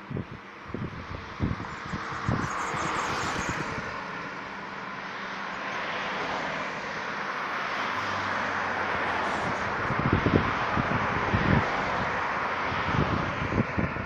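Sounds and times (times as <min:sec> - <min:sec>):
traffic passing close by: 0:00.0 - 0:14.0.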